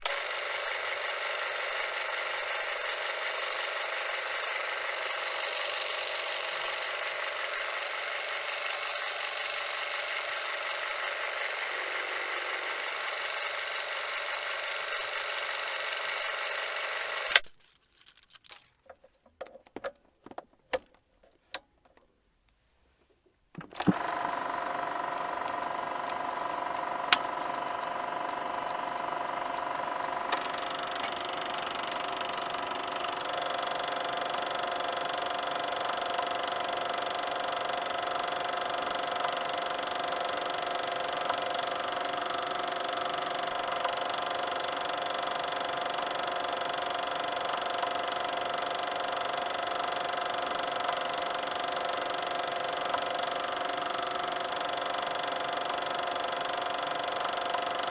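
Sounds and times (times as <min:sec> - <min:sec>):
film projector motor whir: 0:00.0 - 0:18.6, 0:23.6 - 0:57.9.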